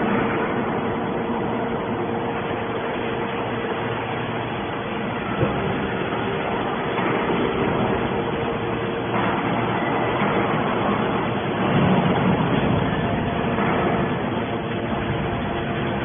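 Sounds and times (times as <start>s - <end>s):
faint constant whine: 0.0s - 16.0s
hydraulic baler humming: 0.0s - 16.0s.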